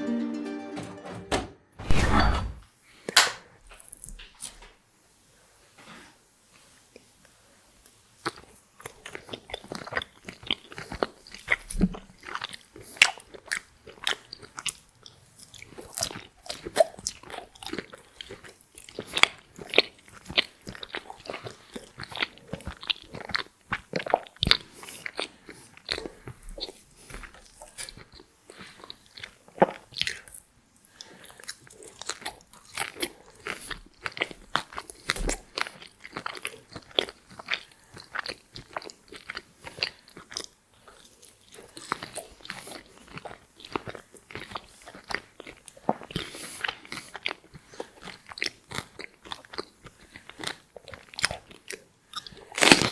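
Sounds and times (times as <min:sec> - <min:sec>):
chewing: 0:07.8 - 0:52.9
crunching crisp fries: 0:07.9 - 0:52.9.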